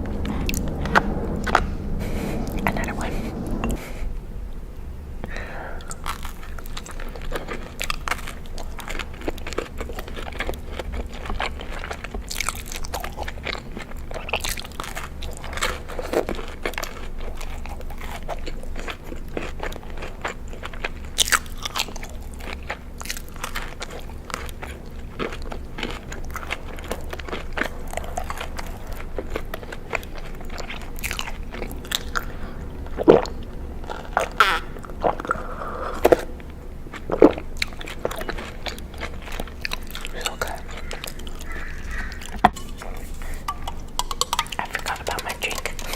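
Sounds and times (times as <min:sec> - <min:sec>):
crunchy food being chewed: 0:00.0 - 0:03.8, 0:05.2 - 0:45.9.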